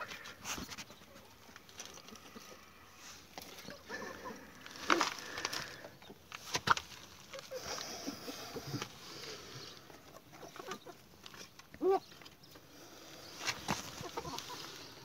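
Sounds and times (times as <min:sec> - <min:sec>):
hen clucking: 0:00.0 - 0:06.3, 0:07.2 - 0:12.6, 0:13.2 - 0:15.0
straw rustling: 0:00.0 - 0:15.0.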